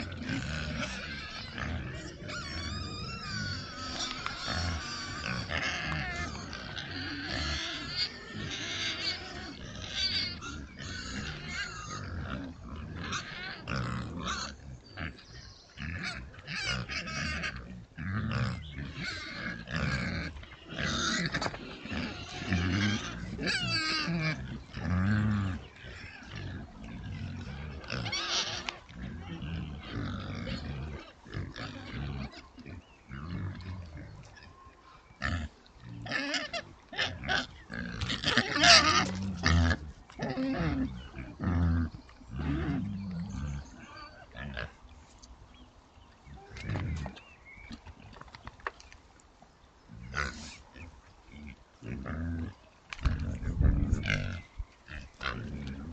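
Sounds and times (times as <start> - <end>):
pigs grunting and squealing: 0.0 - 44.9, 46.2 - 48.2, 49.9 - 55.9.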